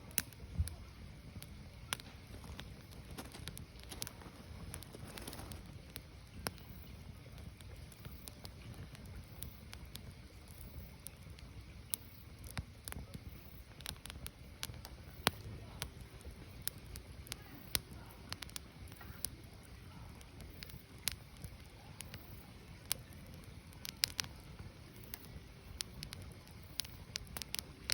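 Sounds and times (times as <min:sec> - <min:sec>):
firewood crackling and popping: 0:00.0 - 0:27.9.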